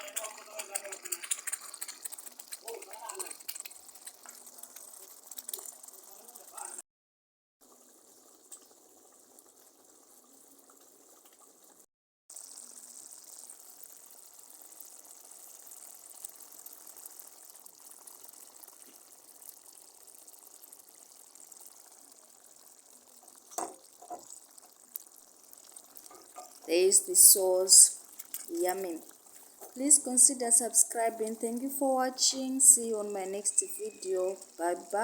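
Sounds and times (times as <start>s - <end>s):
sauce bubbling in a pot: 0.0s - 6.8s, 7.6s - 35.0s.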